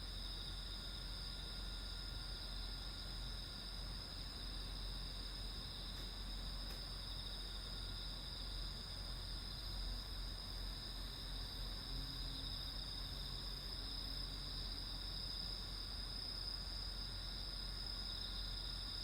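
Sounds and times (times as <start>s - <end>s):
faint low hum: 0.0s - 19.0s
night insects trilling: 0.0s - 19.0s.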